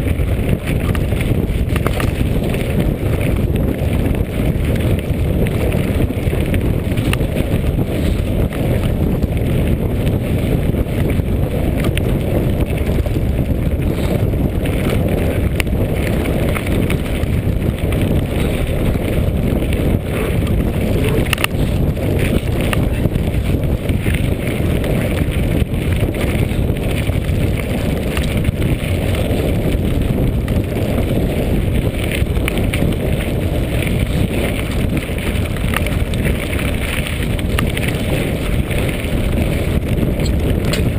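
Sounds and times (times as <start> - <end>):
bike tyres rattling over stones: 0.0 - 40.9
wind buffeting microphone: 0.0 - 40.9.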